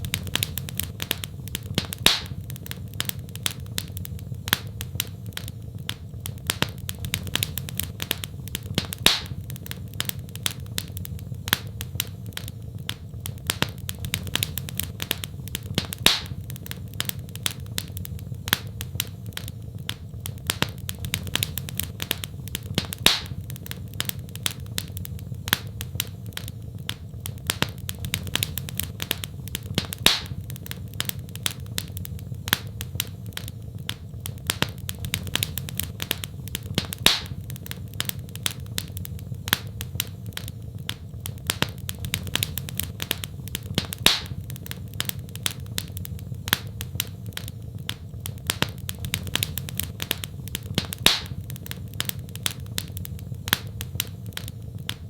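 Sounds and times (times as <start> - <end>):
loud fire snap: 0.0 - 55.0
low fire rumble: 0.0 - 55.0
wood fire crackling and popping: 0.0 - 55.0.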